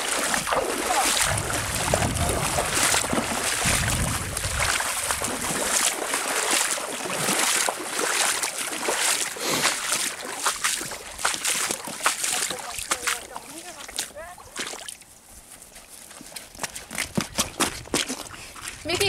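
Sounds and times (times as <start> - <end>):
boots splashing in water: 0.0 - 15.1, 15.8 - 19.0.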